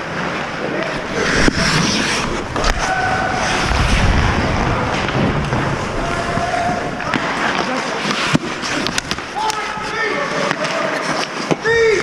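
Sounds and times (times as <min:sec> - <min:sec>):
skates scraping on ice: 0:00.0 - 0:12.0.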